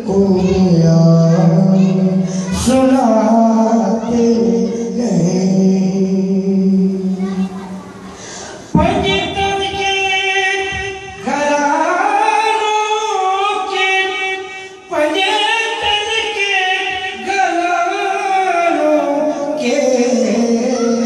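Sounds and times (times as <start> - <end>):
man singing into a microphone: 0.0 - 7.4, 8.7 - 21.0.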